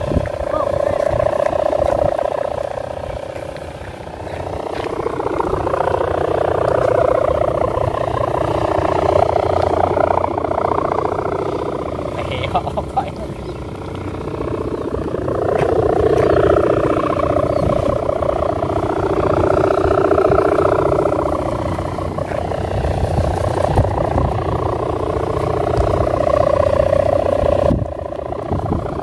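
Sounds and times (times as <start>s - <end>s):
kite hummer buzzing: 0.0s - 29.0s
wind rumble on microphone: 0.0s - 29.0s.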